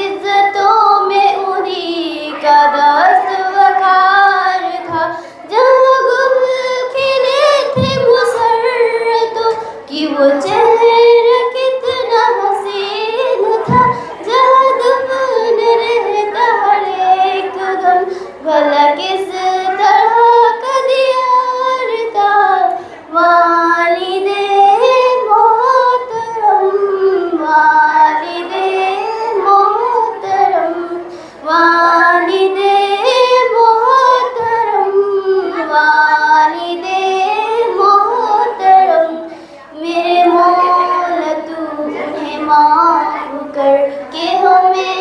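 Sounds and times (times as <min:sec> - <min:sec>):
girl singing into a microphone: 0:00.0 - 0:45.0.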